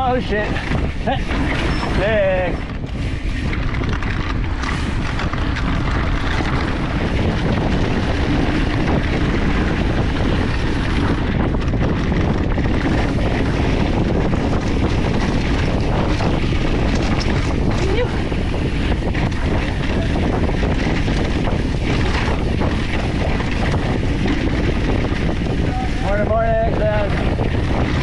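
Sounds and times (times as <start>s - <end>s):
bike rattling: 0.0s - 28.0s
bike tyres on rough dirt: 0.0s - 28.0s
wind rushing over microphone: 0.0s - 28.0s.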